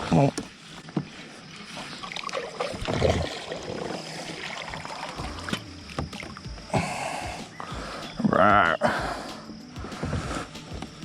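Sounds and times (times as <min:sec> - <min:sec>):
water splashing around a kayak: 0:00.0 - 0:11.0.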